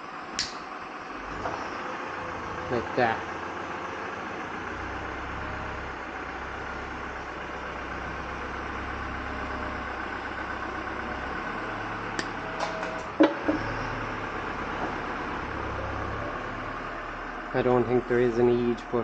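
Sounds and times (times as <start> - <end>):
hissing engine-like hum: 0.0 - 19.0.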